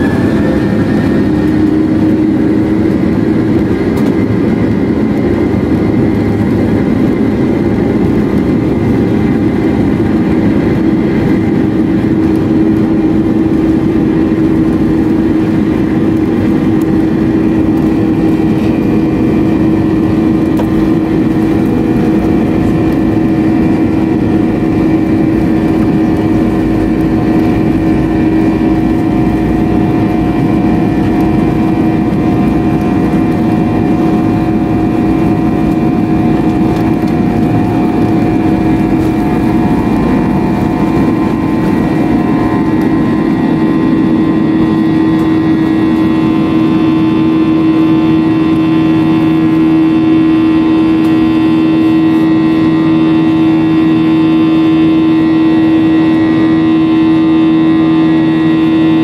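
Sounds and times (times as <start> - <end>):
deep rumble: 0.0 - 57.9
high engine whine: 0.0 - 59.0
jet engines roaring: 0.0 - 59.0.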